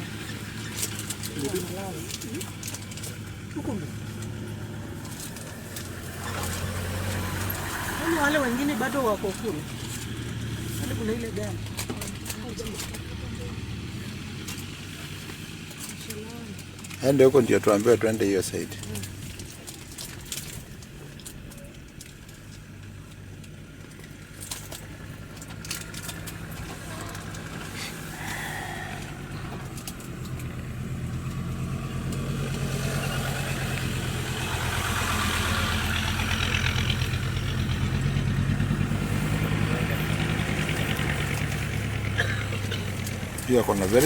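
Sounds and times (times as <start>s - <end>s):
vehicle engine humming: 0.0s - 44.0s.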